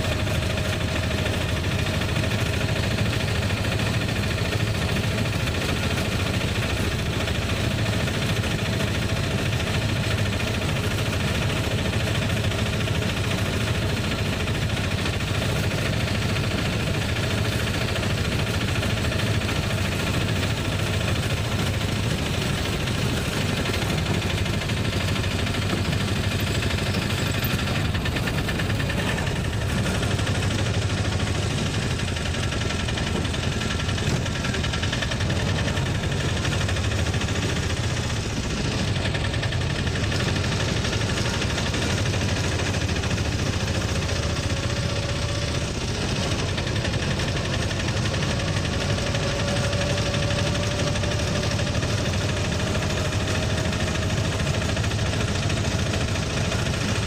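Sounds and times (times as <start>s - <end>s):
auto-rickshaw engine rumbling: 0.0s - 57.0s.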